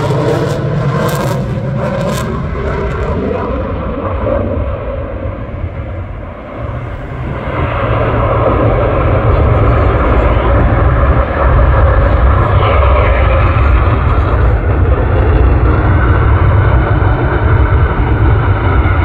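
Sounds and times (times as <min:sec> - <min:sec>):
aircraft engine passing: 0:00.0 - 0:19.0.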